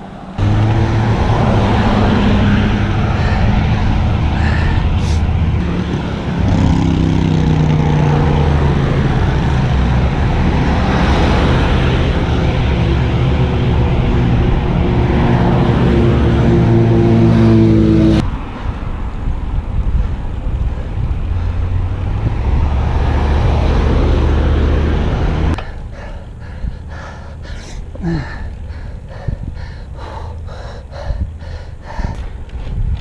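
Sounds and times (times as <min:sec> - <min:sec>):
wind and road noise on microphone: 0:00.0 - 0:33.0.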